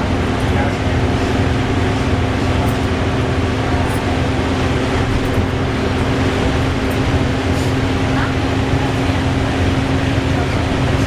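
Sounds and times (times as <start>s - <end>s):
bus engine rumble: 0.0s - 11.0s
whirring whine: 0.0s - 11.0s.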